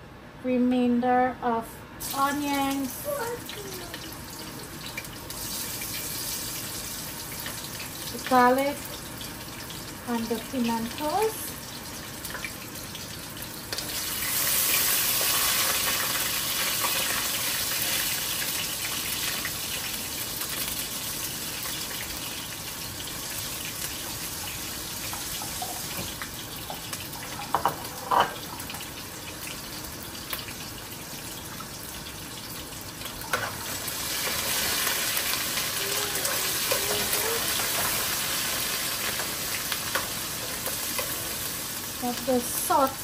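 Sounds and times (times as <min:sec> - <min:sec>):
vegetables sizzling in hot oil: 0:02.0 - 0:43.0.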